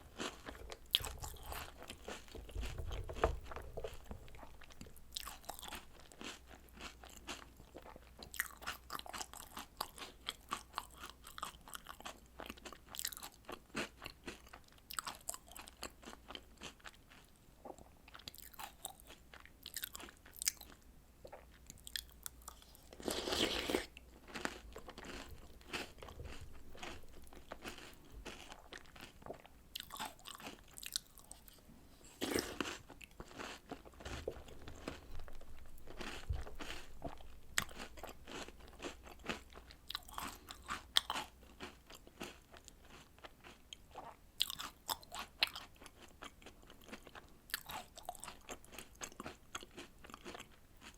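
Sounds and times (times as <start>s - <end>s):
crunching and chewing cookies: 0.0s - 50.9s.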